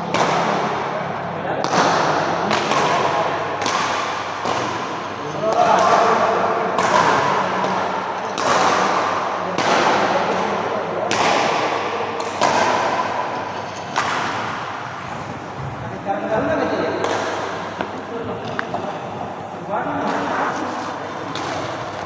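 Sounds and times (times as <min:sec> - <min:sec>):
racket hitting shuttlecock: 0:00.1 - 0:00.9, 0:01.6 - 0:22.0.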